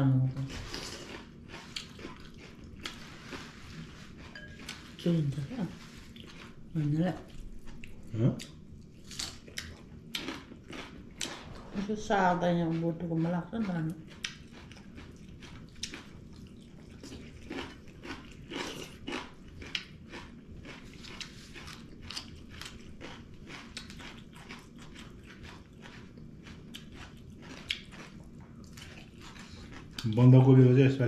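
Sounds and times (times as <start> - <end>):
chewing crunchy food: 0.4 - 31.0.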